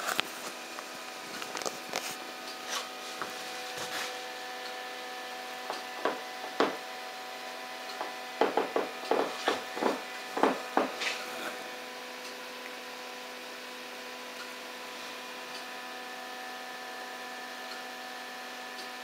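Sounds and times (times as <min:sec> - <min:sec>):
steady electric hum: 0:00.0 - 0:19.0.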